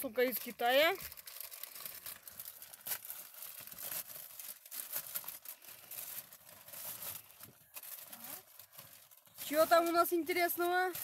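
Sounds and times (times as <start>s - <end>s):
plastic bag crinkling and tearing: 0.0s - 11.0s.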